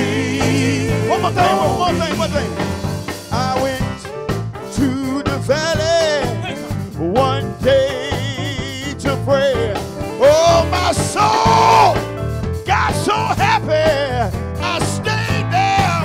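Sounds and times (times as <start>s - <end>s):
man singing with vibrato: 0.0s - 12.1s, 12.7s - 16.0s
electric bass and keyboard: 0.0s - 16.0s.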